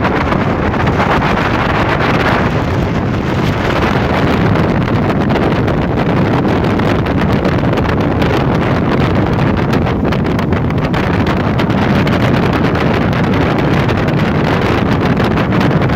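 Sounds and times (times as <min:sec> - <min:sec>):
motorboat engine: 0:00.0 - 0:15.9
rushing water: 0:00.0 - 0:15.9
wind buffeting microphone: 0:00.0 - 0:15.9.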